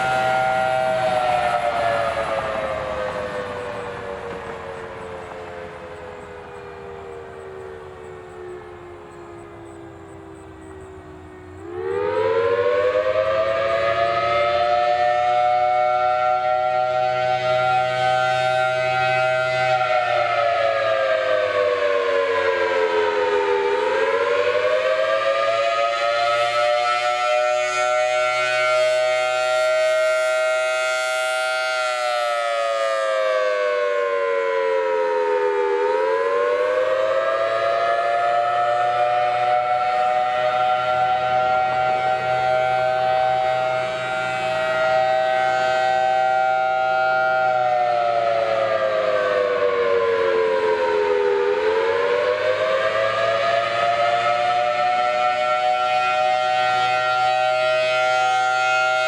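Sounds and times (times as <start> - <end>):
warning siren rising and falling wail: 0.0 - 59.0.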